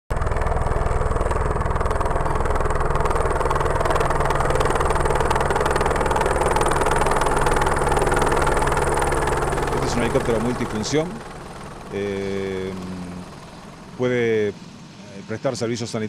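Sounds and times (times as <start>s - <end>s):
faint high whine: 0.1s - 16.0s
helicopter engine noise: 0.1s - 16.0s
helicopter rotor beating: 0.1s - 16.0s.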